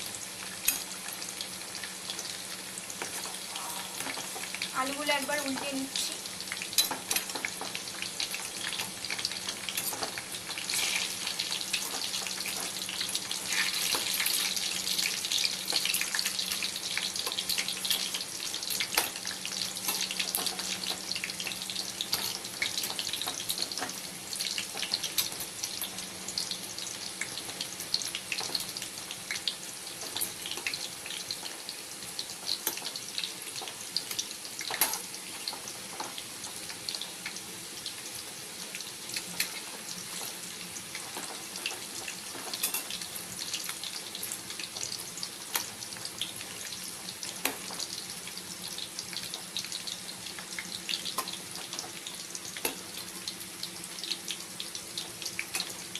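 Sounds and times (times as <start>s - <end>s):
potatoes sizzling in hot oil: 0.0s - 55.9s.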